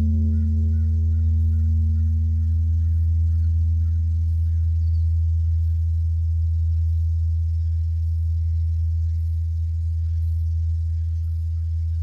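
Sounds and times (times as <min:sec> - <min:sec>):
bronze bell humming: 0:00.0 - 0:12.0.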